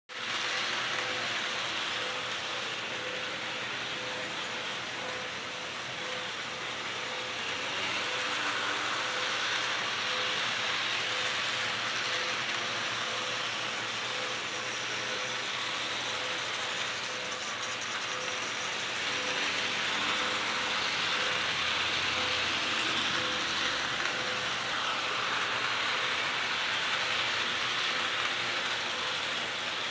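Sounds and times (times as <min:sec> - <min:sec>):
model train motors whirring: 0:00.1 - 0:29.9.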